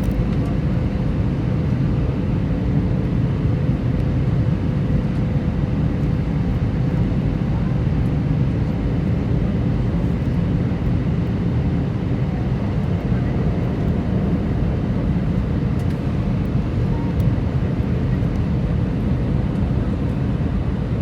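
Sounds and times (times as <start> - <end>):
jet engines in flight: 0.0 - 21.0.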